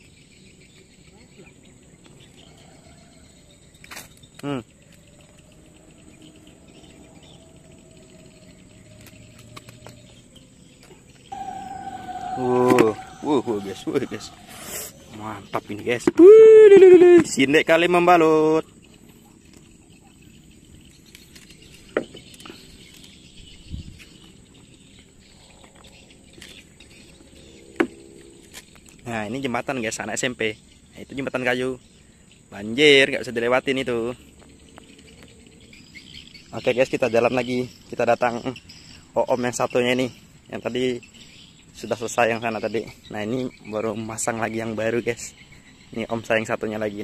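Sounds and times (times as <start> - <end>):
faint insect chirring: 0.0 - 16.0, 16.9 - 47.0.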